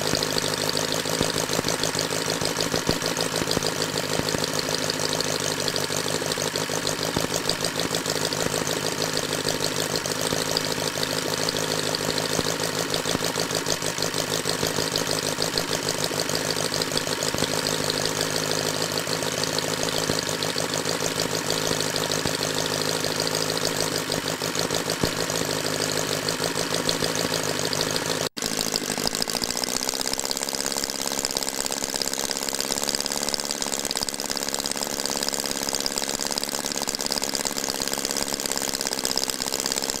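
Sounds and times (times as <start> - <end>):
model engine running: 0.0 - 40.0.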